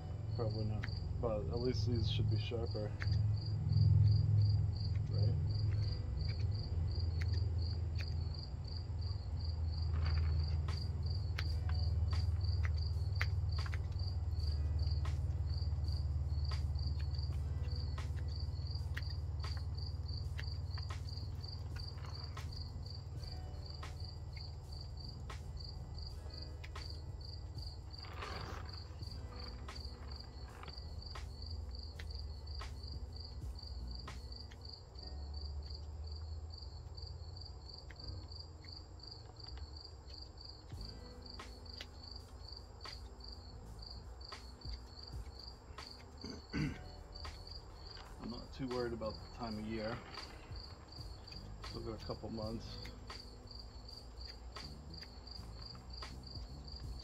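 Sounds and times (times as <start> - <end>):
cricket chirping: 0.0 - 57.0
low steady rumble: 0.0 - 57.0.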